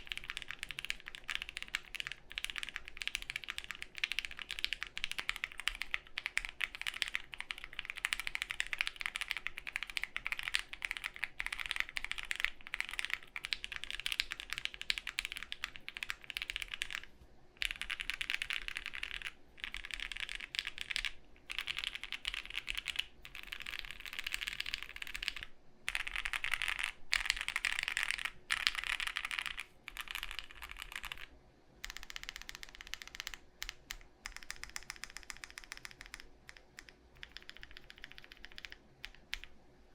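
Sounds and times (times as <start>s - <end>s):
fast mechanical keyboard typing: 0.0s - 39.5s
faint fan hum: 0.0s - 39.9s.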